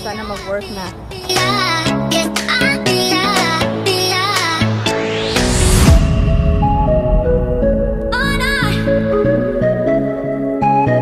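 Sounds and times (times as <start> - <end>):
electronic music: 1.4 - 10.6.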